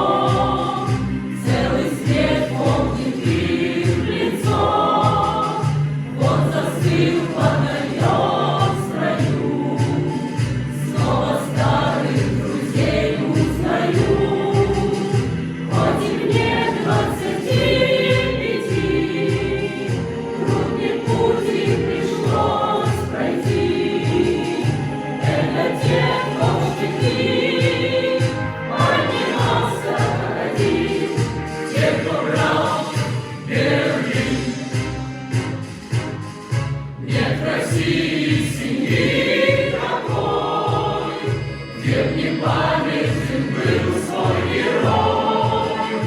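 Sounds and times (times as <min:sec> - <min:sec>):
choir singing: 0:00.0 - 0:35.6, 0:36.9 - 0:46.0
instrumental backing with beat: 0:00.0 - 0:46.0.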